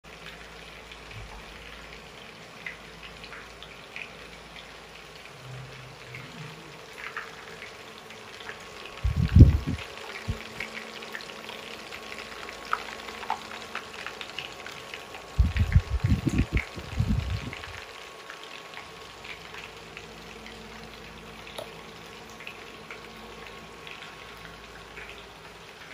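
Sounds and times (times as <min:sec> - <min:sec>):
meatballs sizzling in oil: 0:00.1 - 0:25.9.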